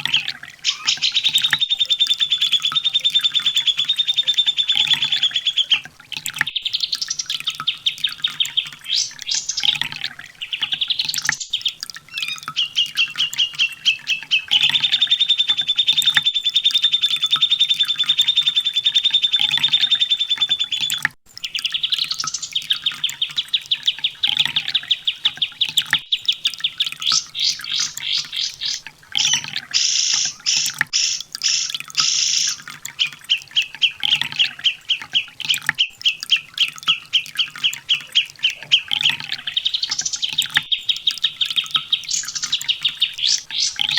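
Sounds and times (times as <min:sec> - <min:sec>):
sunbird trilling song: 0:00.0 - 0:05.9, 0:06.5 - 0:43.9.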